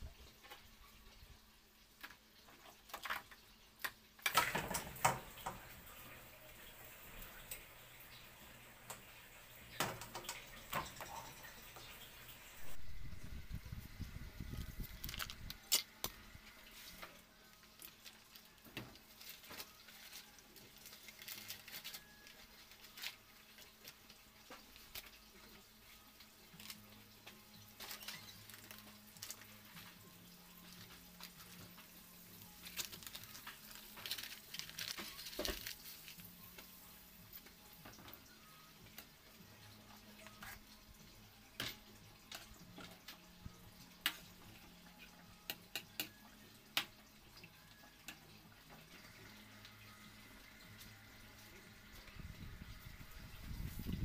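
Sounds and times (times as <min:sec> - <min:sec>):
crackles and spatters: 0:00.0 - 0:54.0.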